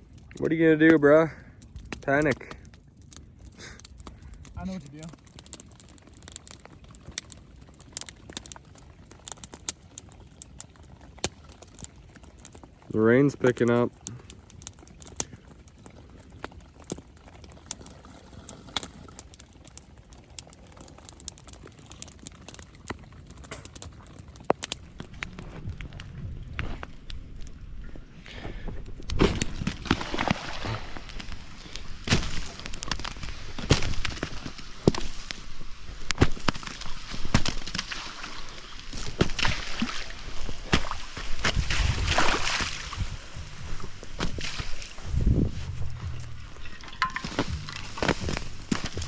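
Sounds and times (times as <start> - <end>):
campfire crackling: 0.0 - 49.0
rain pattering on a tarp: 0.0 - 49.0.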